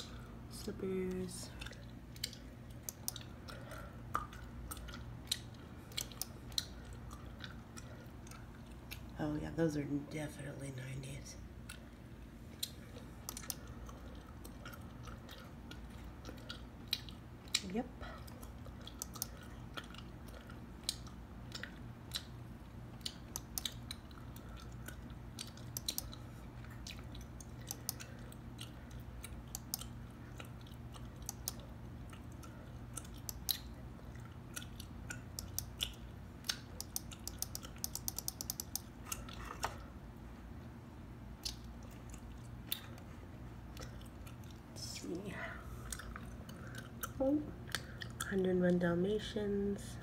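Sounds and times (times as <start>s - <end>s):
gum chewing clicks and smacks: 0.0s - 9.2s, 11.5s - 44.9s, 45.7s - 48.4s.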